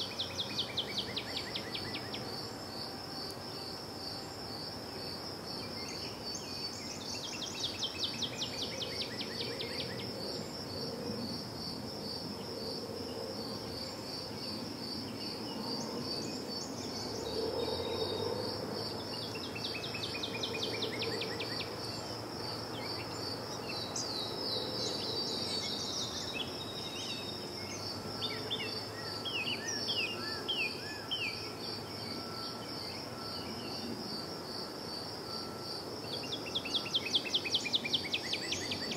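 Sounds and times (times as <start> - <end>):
songbirds singing: 0.0 - 11.5, 12.1 - 38.9
crickets chirping: 0.0 - 38.9.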